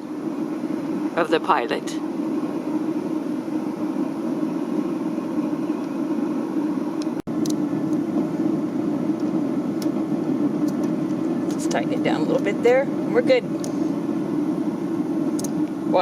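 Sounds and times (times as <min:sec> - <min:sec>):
propane burner flame rushing: 0:00.0 - 0:16.0.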